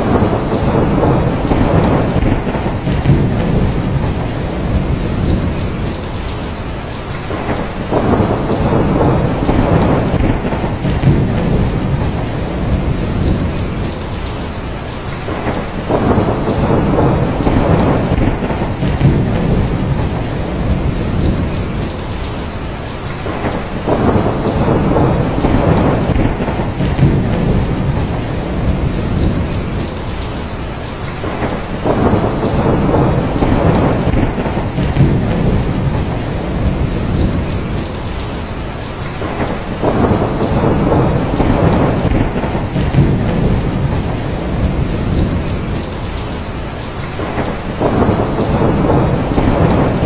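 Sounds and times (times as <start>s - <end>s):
heavy rain: 0.0s - 50.0s
thunder rumbling: 0.0s - 50.0s.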